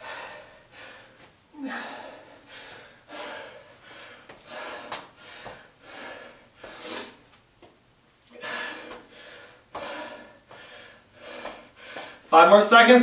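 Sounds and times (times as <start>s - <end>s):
man breathing hard: 0.0s - 7.3s, 8.3s - 12.3s.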